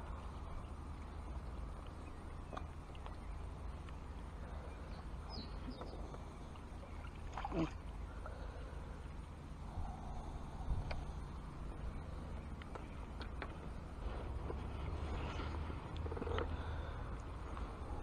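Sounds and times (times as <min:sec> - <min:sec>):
steady low rumble: 0:00.0 - 0:18.0
water splashing and lapping: 0:00.0 - 0:18.0.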